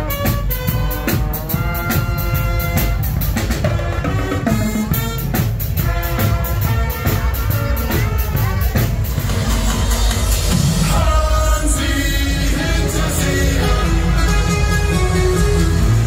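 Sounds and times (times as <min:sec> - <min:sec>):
brass band with trombones: 0:00.0 - 0:16.0
steady drum beat: 0:00.0 - 0:16.0.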